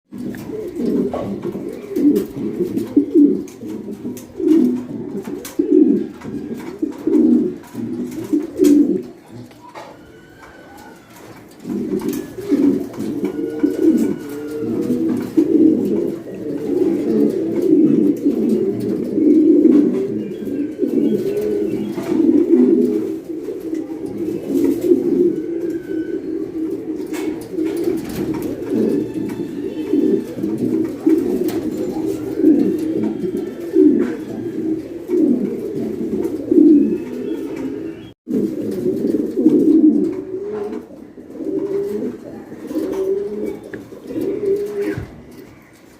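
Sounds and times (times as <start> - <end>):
pigeons cooing: 0.1 - 45.9.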